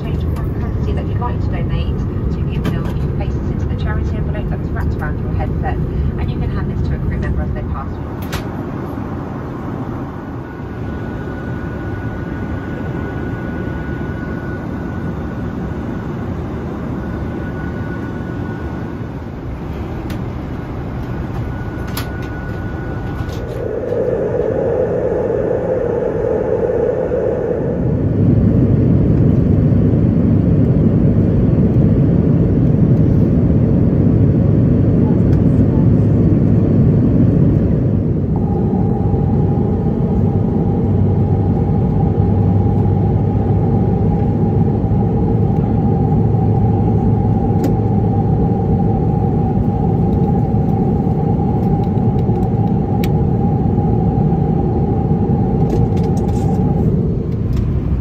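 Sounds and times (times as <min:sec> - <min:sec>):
jet engines heard from cabin: 0:00.0 - 0:58.0.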